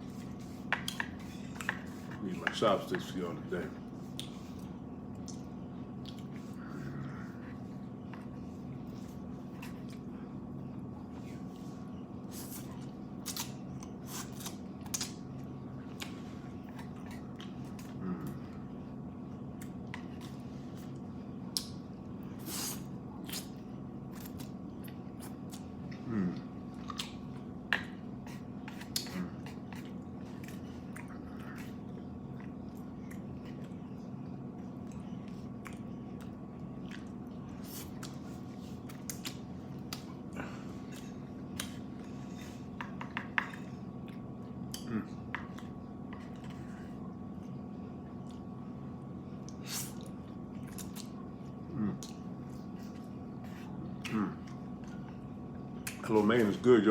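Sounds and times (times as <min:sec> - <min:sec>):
electric fan humming: 0:00.0 - 0:56.9
person chewing noodles: 0:03.9 - 0:48.6, 0:49.3 - 0:56.0.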